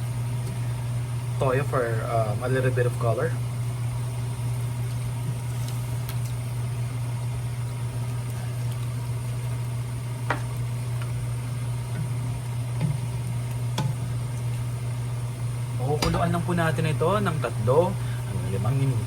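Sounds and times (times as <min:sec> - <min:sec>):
kitchen appliance humming: 0:00.0 - 0:19.0.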